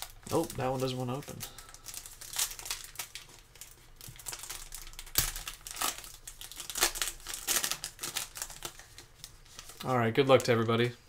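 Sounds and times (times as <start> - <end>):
foil pack crinkling: 0.0 - 10.6.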